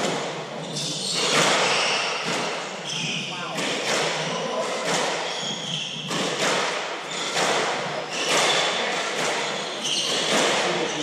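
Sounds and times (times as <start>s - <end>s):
squash ball hitting racquets and walls: 0.0s - 11.0s
shoe squeaks: 0.5s - 11.0s.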